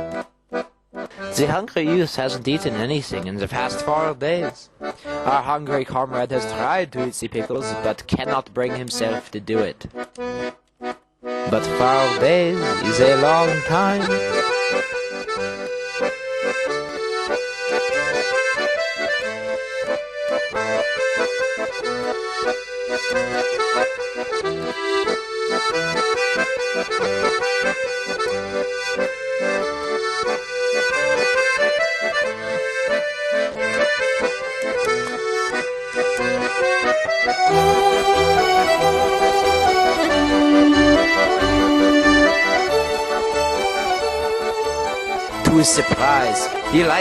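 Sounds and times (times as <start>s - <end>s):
accordion music: 0.0s - 47.0s.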